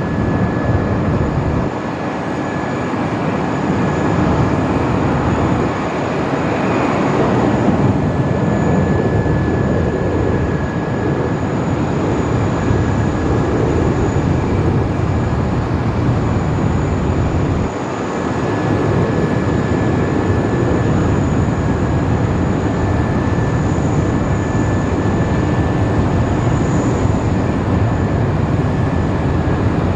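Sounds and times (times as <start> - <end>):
jet engines running with whine: 0.0 - 29.9.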